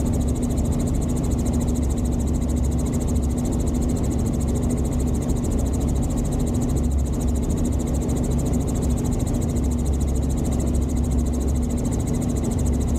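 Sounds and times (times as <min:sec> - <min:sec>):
helicopter engine and rotor drone: 0:00.0 - 0:12.9.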